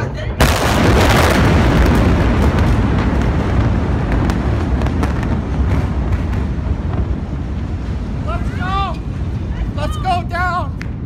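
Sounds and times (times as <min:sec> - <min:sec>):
explosion rumble: 0:00.0 - 0:11.0.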